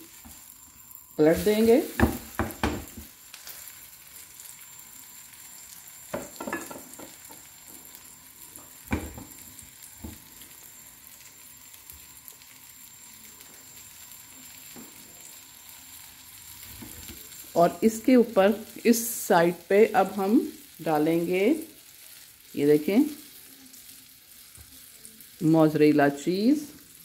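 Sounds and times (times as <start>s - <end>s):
omelette sizzling in oil: 0.0s - 27.0s.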